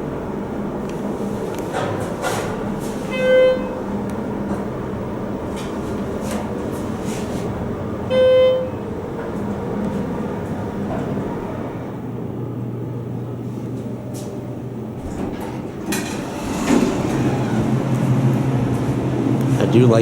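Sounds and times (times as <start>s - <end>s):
elevator machinery humming: 0.0s - 20.0s.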